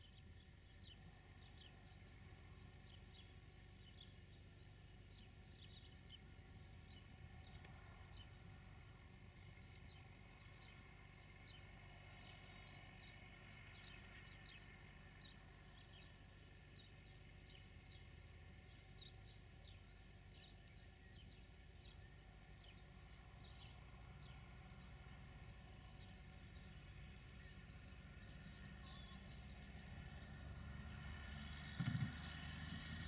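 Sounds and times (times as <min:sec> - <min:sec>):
faint birds chirping: 0:00.0 - 0:33.0
low steady rumble: 0:00.0 - 0:33.0.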